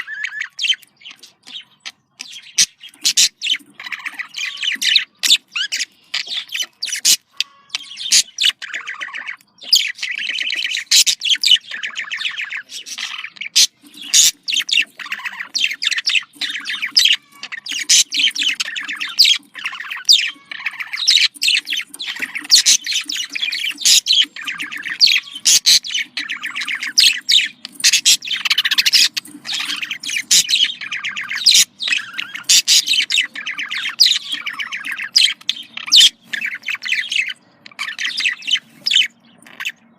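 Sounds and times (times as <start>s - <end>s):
budgerigar squawks: 0.0s - 39.8s
budgerigars chattering and warbling: 0.0s - 39.9s.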